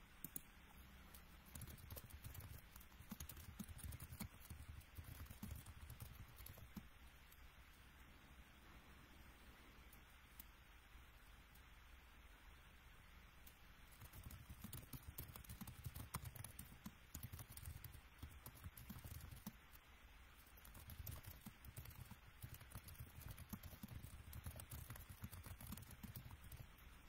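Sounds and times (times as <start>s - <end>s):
faint keyboard typing: 0.2s - 8.1s, 9.8s - 10.6s, 13.4s - 27.0s.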